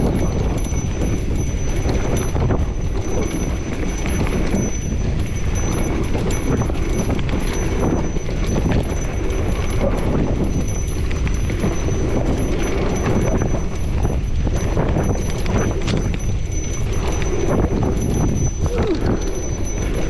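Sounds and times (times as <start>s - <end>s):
wind and tyre rumble: 0.0s - 20.0s.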